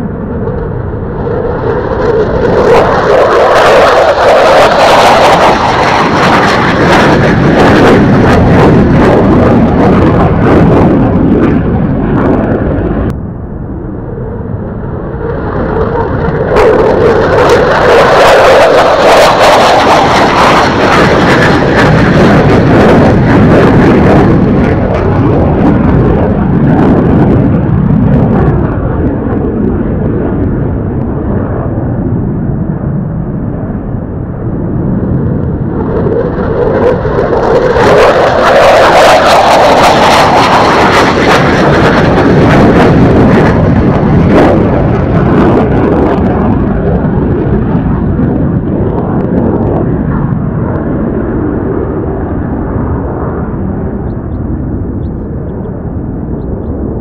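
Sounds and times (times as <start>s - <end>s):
fighter jet passing: 0.0s - 57.0s
jet engine crackle: 0.0s - 57.0s.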